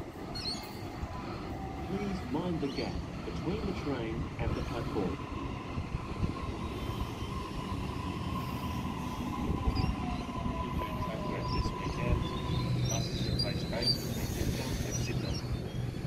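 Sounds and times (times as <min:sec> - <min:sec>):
train wheels rumbling: 0:00.0 - 0:16.0
steady high whine: 0:00.9 - 0:16.0.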